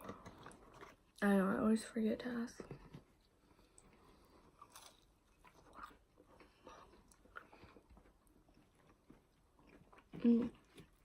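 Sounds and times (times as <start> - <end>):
person chewing food: 0.0 - 1.2, 2.8 - 11.0.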